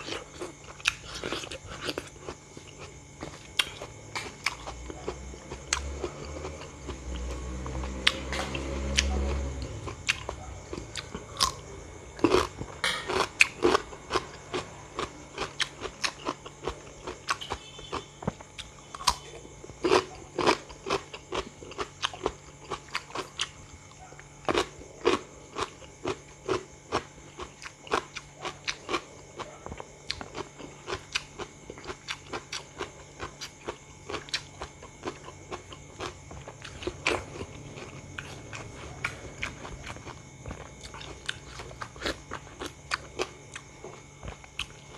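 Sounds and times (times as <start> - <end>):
crunchy bites and chewing: 0.0 - 44.9.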